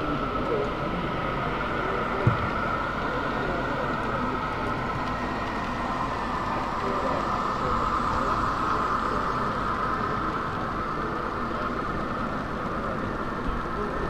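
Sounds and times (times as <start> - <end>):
model train running: 0.0 - 14.0
murmur of many voices: 0.0 - 14.0.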